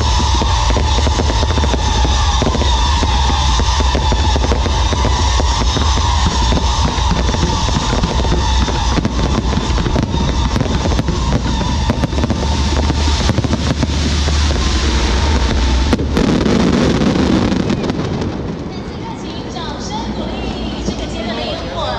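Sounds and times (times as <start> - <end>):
fireworks launching and bursting: 0.0 - 21.5
deep rumble: 0.0 - 21.9
dense fireworks crackling: 0.0 - 21.9.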